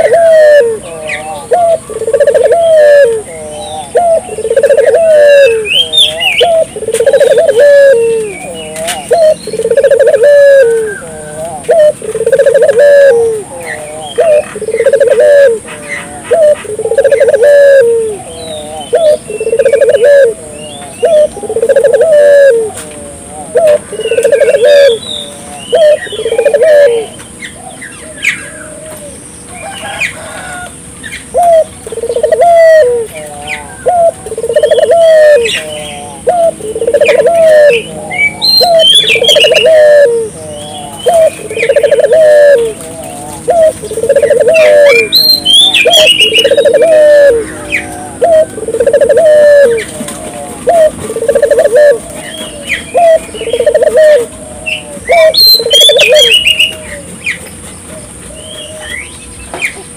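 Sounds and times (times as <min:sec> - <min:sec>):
doves cooing: 0:00.0 - 0:59.9
small birds chirping: 0:00.0 - 0:59.9.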